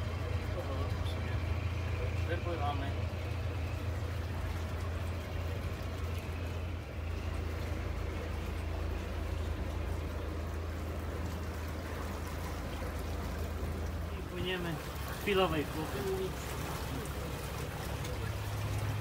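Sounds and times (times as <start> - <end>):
boat engine humming: 0.0 - 19.0
running water: 0.0 - 19.0.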